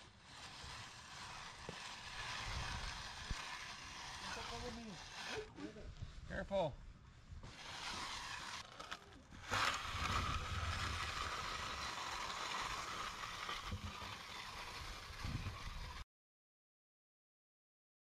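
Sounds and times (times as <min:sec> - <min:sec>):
steel float scraping wet concrete: 0:00.0 - 0:06.7, 0:07.4 - 0:16.0.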